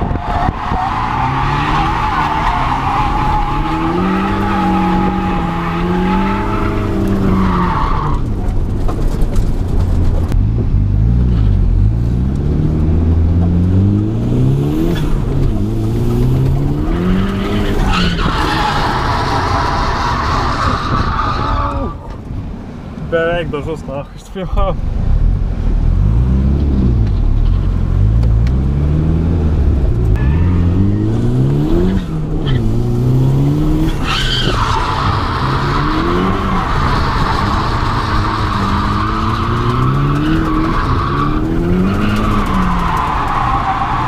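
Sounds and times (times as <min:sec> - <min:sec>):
car engine revving: 0:00.0 - 0:20.7, 0:25.2 - 0:44.0.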